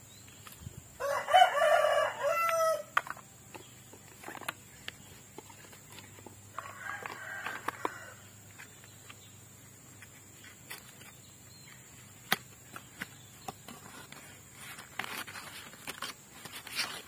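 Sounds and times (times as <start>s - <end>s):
cardboard box and plastic clicks: 2.4s - 9.3s, 9.9s - 17.0s.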